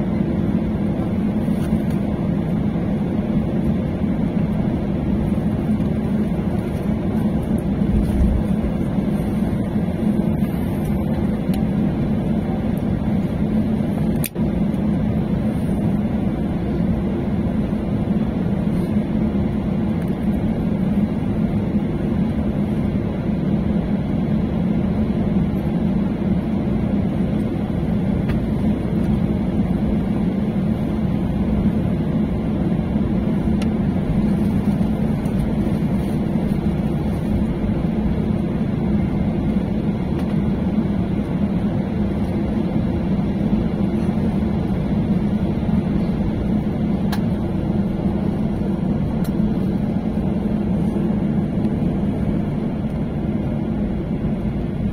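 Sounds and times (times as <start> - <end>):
airliner engine hum: 0.0 - 54.9.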